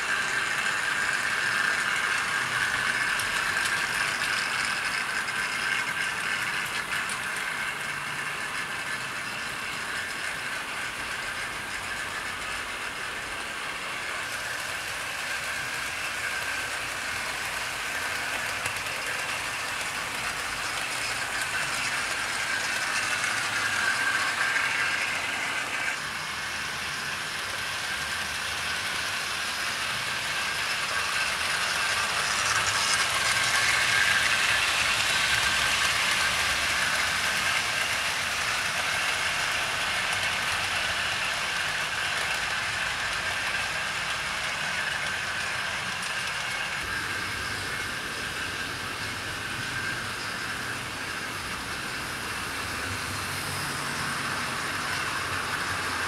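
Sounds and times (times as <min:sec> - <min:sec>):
model trains whirring on track: 0:00.0 - 0:56.0.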